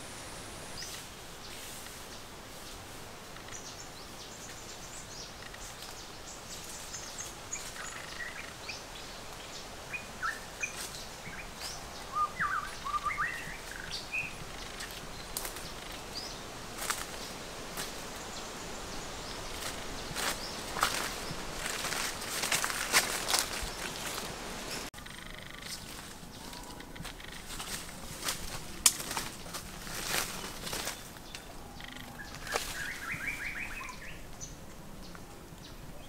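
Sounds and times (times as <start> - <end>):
forest background noise: 0.0 - 36.0
small birds chirping: 0.7 - 36.0.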